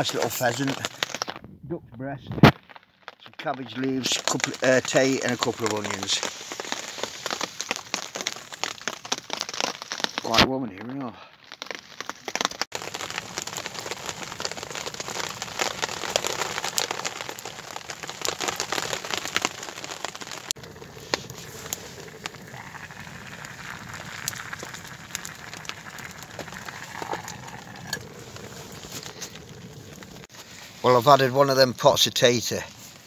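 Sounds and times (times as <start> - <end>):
wood fire crackling and popping: 0.0 - 1.5, 2.3 - 33.0.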